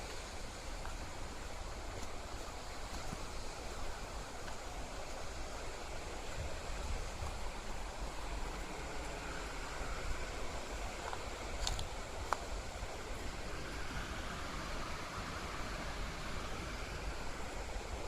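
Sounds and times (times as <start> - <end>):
fast-flowing white water rushing: 0.0 - 18.0.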